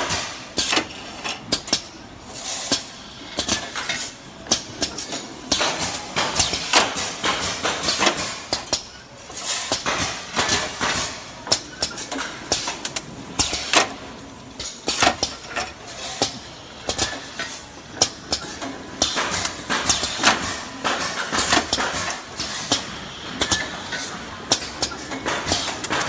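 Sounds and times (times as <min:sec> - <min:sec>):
packing machine clacking and rattling: 0:00.0 - 0:26.0.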